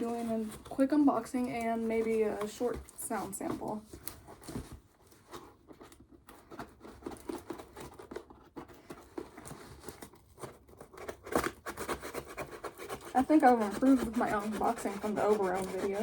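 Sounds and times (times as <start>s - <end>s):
cardboard package rustling and scraping: 0.0s - 16.0s.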